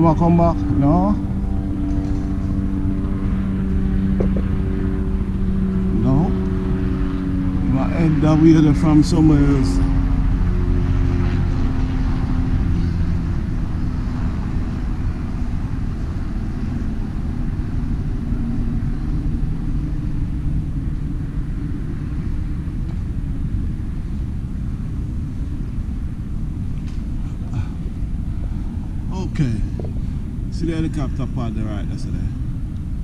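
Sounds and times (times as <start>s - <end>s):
low vehicle rumble: 0.0s - 33.0s.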